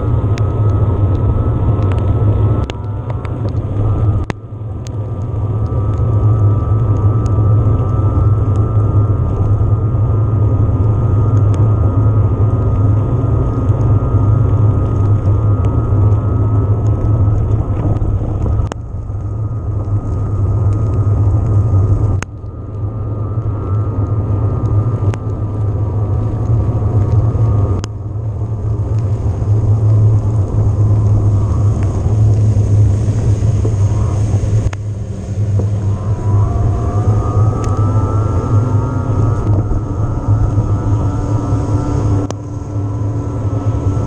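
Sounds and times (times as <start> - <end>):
wind and tyre rumble: 0.0 - 44.0.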